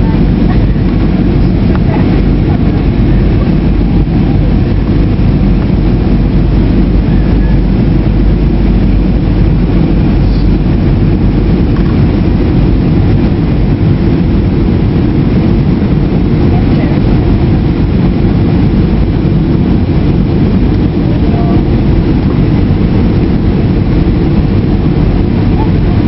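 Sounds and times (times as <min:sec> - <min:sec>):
jet engine drone: 0:00.0 - 0:26.0
rushing air: 0:00.0 - 0:26.0.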